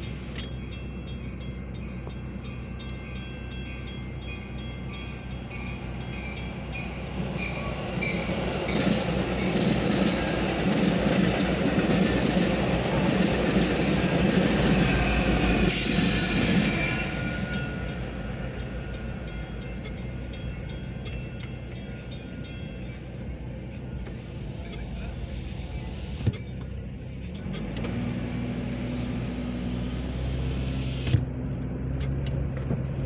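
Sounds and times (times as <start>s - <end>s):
railroad crossing bell ringing: 0.0s - 28.2s
train wheels rumbling and clacking: 0.0s - 33.0s.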